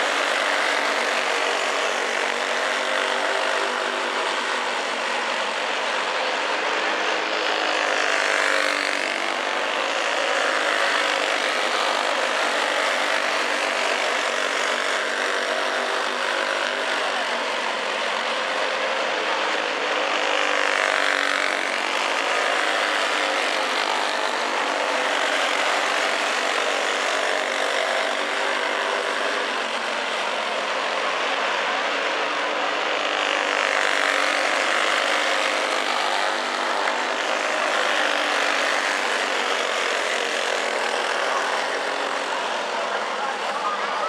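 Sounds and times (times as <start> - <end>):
go-kart engines racing: 0.0 - 44.0.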